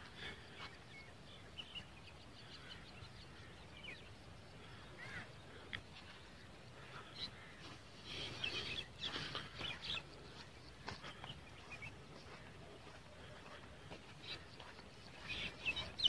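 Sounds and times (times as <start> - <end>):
birds calling: 0.0 - 16.0
faint steady background noise: 0.0 - 16.0.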